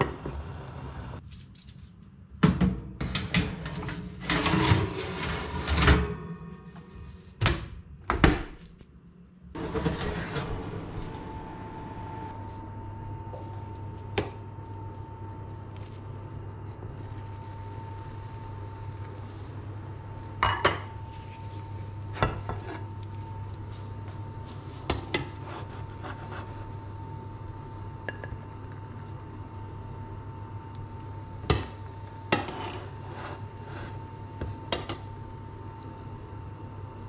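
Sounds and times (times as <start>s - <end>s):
steady low hum: 5.8s - 37.0s.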